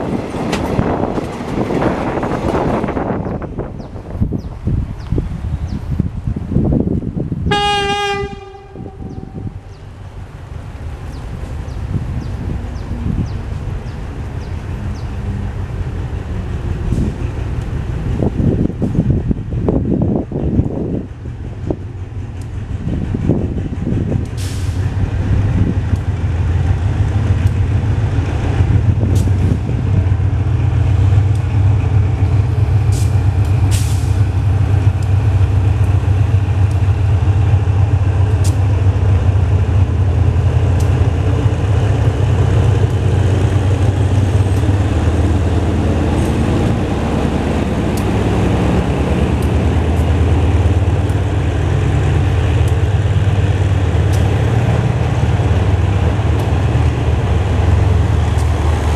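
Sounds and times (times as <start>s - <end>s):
train wheels rolling on rails: 0.0s - 7.5s, 8.1s - 58.9s
diesel locomotive engine drone: 0.0s - 58.9s.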